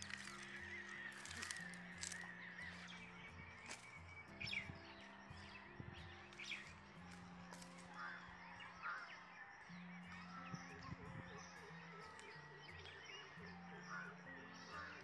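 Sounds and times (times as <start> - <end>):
birds chirping: 0.0 - 15.0
soft low background music: 0.0 - 15.0.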